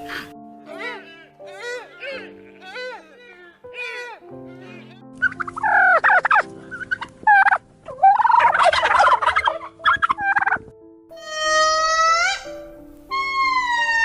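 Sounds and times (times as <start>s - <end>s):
animal calls: 0.0s - 14.0s
light background music: 0.0s - 14.0s.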